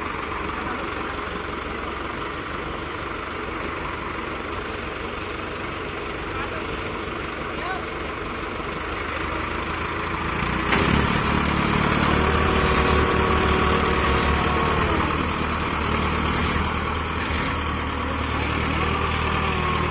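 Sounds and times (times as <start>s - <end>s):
diesel tractor engine under load: 0.0s - 19.9s.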